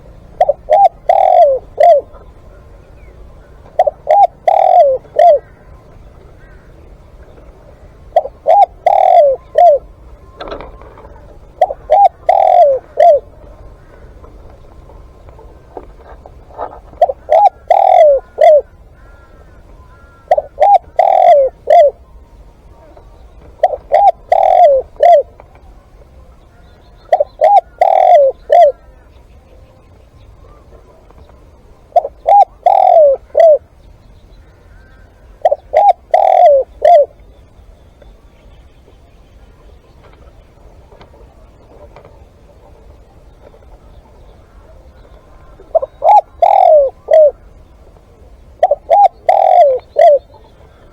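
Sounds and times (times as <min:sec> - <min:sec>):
dove cooing: 0:00.0 - 0:38.3, 0:39.0 - 0:50.9.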